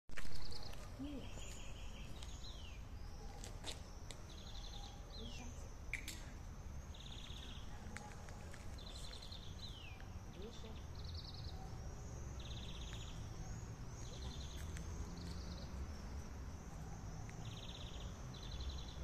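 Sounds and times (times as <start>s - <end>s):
songbird singing buzzy trill: 0.2s - 19.0s.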